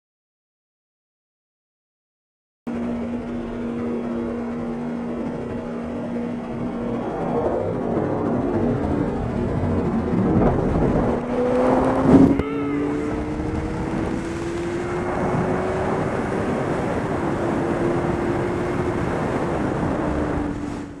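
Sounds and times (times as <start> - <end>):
motorcycle engine accelerating: 2.7 - 21.0
wind rushing over microphone: 2.7 - 21.0.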